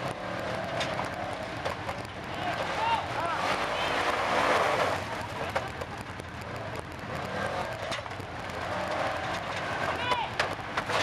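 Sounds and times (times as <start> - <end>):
utv engine running at low revs: 0.0 - 11.0.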